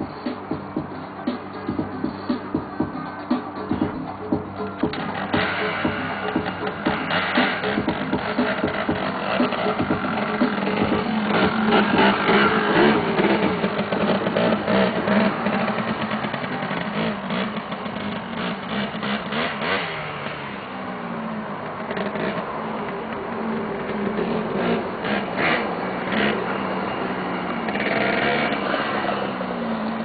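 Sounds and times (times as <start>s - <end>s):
quad bike engine revving: 0.0s - 30.0s.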